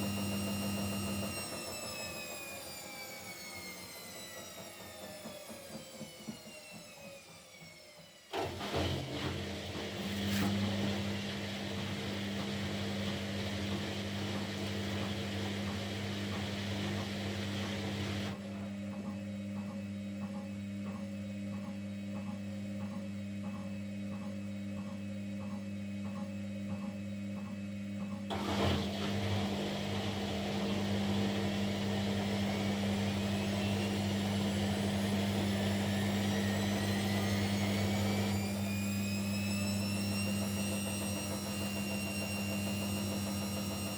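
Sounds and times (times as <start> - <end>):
washing machine spinning: 0.0 - 43.9.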